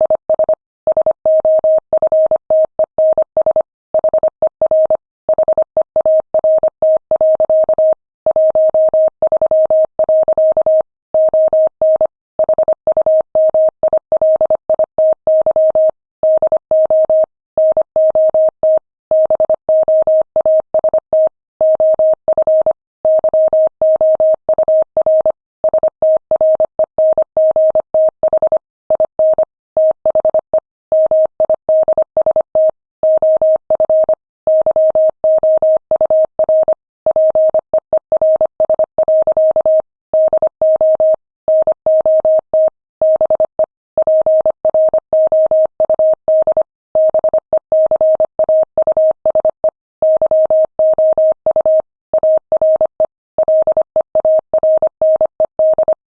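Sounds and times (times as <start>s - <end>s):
morse code beeps: 0.0s - 56.0s.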